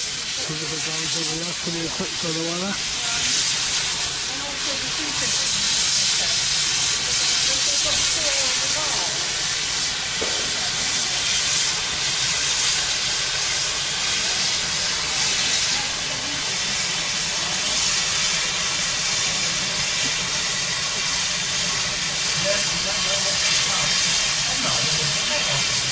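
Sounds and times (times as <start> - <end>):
steam hissing: 0.0 - 25.9.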